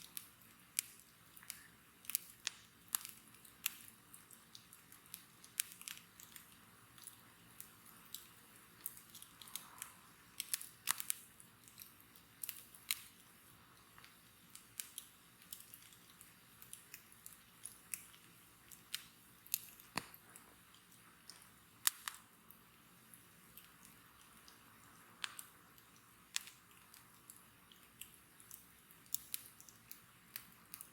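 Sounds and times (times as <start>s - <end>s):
faint steady hiss: 0.0s - 30.9s
wood fire crackling and popping: 0.0s - 30.9s.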